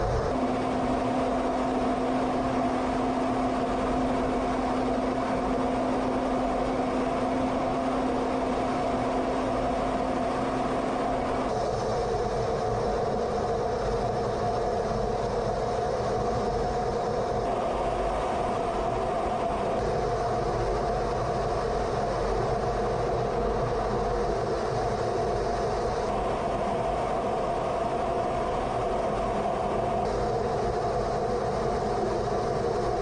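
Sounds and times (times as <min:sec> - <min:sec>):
fighter jet engine and airflow: 0:00.0 - 0:33.0
steady hum: 0:00.0 - 0:33.0.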